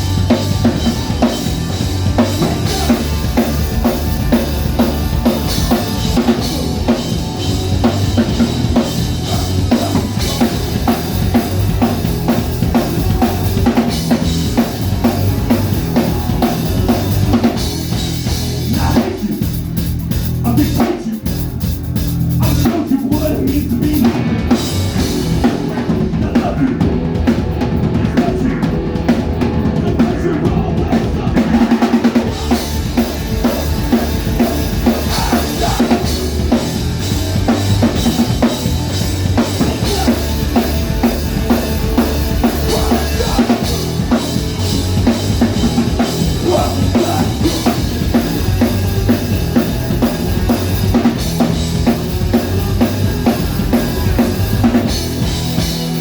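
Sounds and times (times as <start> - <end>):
bass drum and snare: 0.0 - 56.0
live band playing loudly: 0.0 - 56.0.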